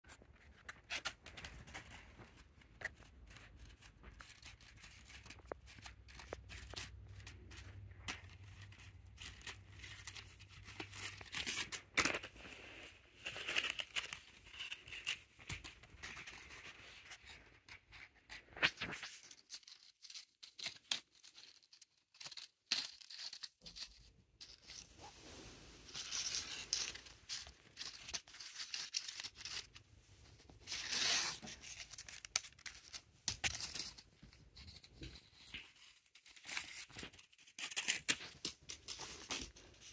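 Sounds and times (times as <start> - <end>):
paper ball crinkling: 0.1 - 39.9.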